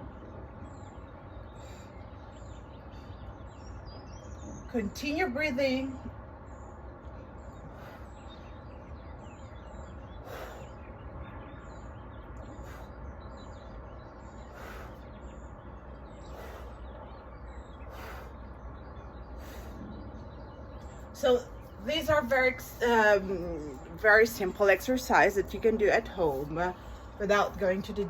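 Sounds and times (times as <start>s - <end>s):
outdoor background rumble: 0.0s - 28.0s
small birds chirping: 0.0s - 28.0s.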